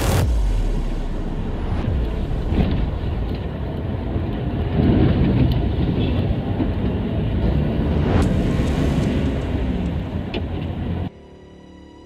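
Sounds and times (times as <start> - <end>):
car engine and tyres rumbling: 0.0 - 11.2.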